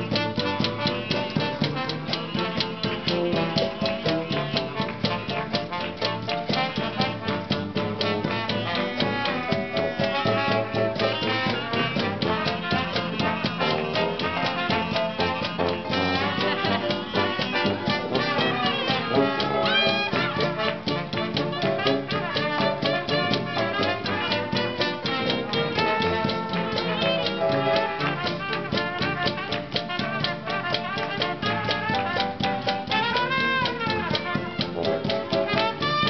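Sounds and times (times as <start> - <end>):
jazz band playing: 0.0 - 36.0
trombone: 0.0 - 36.0
trumpet: 0.0 - 36.0.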